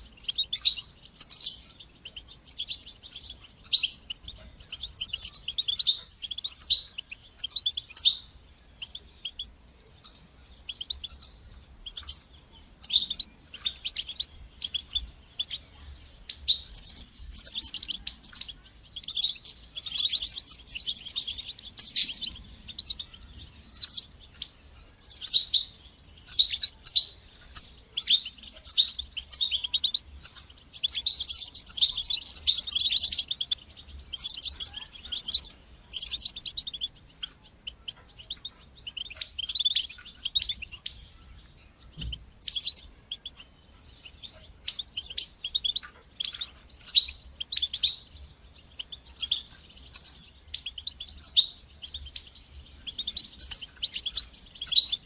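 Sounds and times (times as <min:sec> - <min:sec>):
goldfinch twittering: 0:00.0 - 0:15.6, 0:16.3 - 0:55.0.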